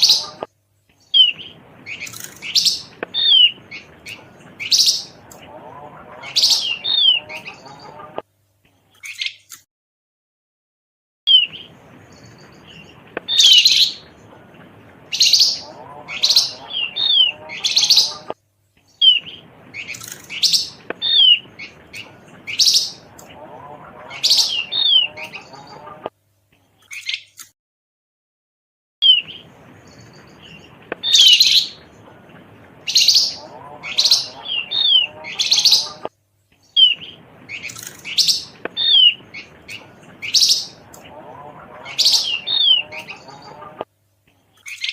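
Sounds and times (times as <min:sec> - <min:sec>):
high downward-sliding bird chirps: 0:00.0 - 0:08.2, 0:11.3 - 0:14.2, 0:15.1 - 0:26.1, 0:29.0 - 0:36.1, 0:36.7 - 0:43.8.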